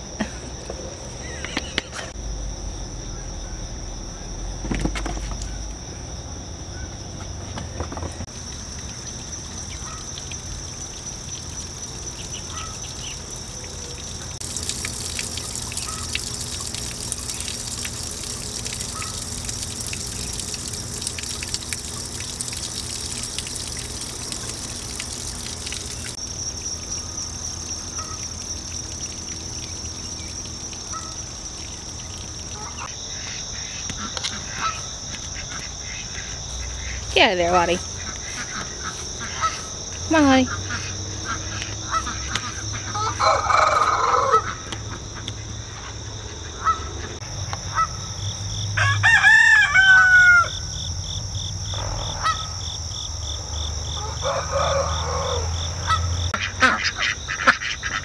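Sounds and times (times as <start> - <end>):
insects chirring: 0.0 - 58.0
water trickling into a pond: 1.1 - 58.0.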